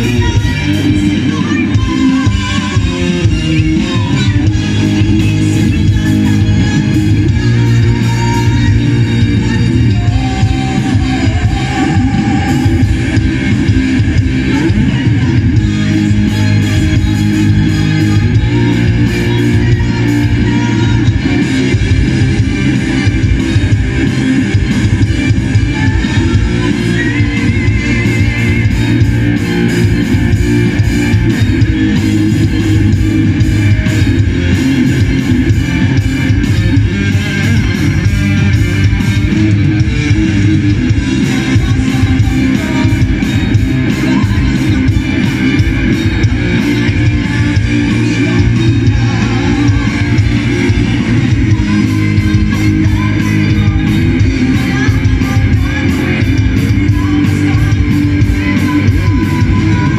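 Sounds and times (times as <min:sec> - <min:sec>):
electric guitar: 0:00.0 - 0:59.9
live rock band playing: 0:00.0 - 0:59.9.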